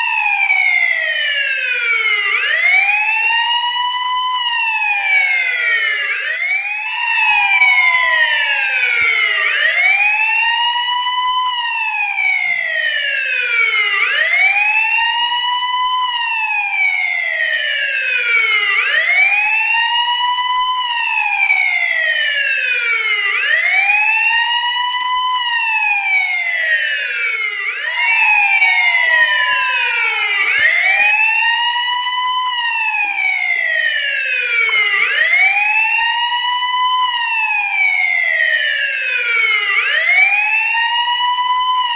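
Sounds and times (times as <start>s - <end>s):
police siren wailing: 0.0s - 41.9s.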